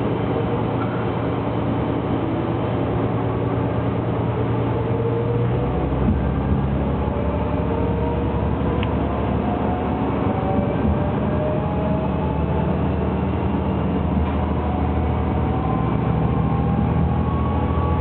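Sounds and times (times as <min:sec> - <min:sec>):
diesel railcar engine drone: 0:00.0 - 0:18.0
rising motor whine: 0:00.0 - 0:18.0.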